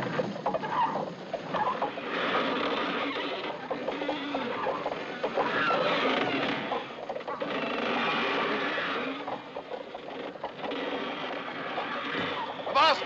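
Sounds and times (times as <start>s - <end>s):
ropes creaking through pulley blocks: 0.0s - 13.0s.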